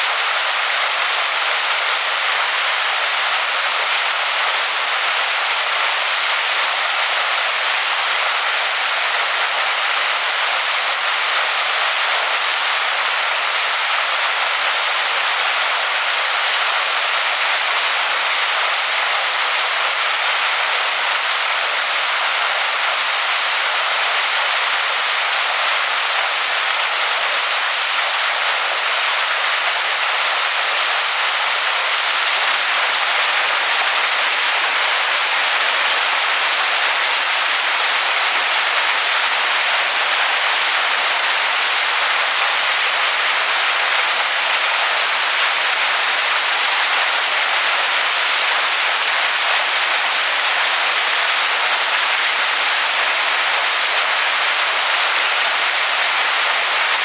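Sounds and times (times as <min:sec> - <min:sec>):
waterfall pouring onto rocks: 0:00.0 - 0:57.0.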